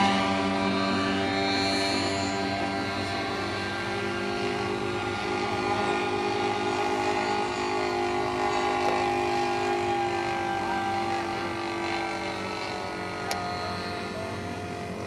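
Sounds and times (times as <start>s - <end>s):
model airplane engine droning: 0.0s - 15.0s.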